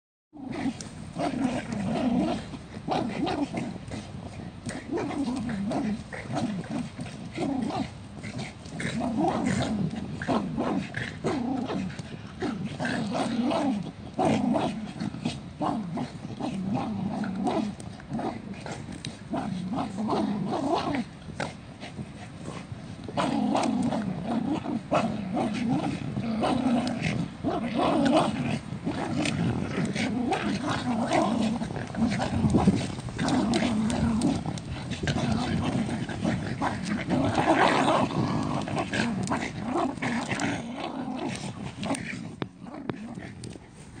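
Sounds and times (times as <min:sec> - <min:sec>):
dogs growling: 0:00.4 - 0:44.0.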